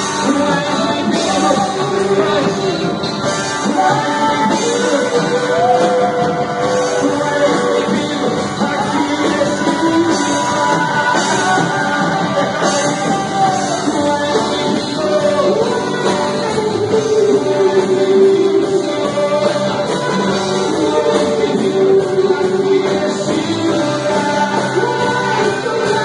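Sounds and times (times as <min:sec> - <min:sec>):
drum kit with cymbals: 0:00.0 - 0:26.0
electric guitars: 0:00.0 - 0:26.0
person singing: 0:00.0 - 0:26.0.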